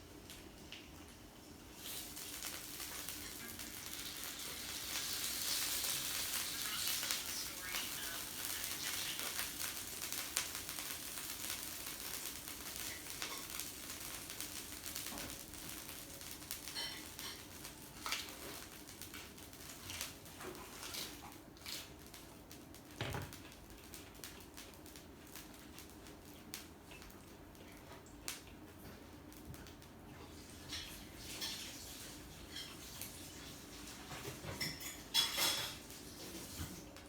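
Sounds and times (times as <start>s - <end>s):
meat sizzling on a grill: 0.0s - 37.0s.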